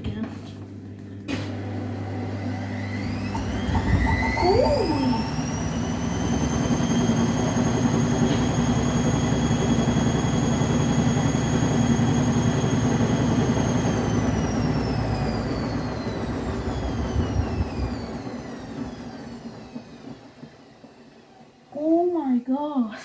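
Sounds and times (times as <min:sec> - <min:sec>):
washing machine drum spinning: 0:02.0 - 0:21.2.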